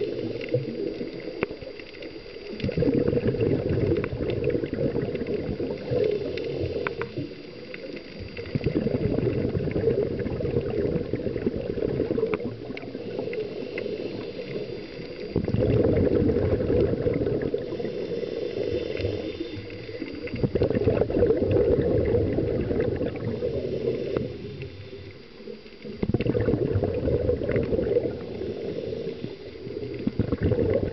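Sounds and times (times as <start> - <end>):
regulator bubbles gurgling underwater: 0.0 - 30.9.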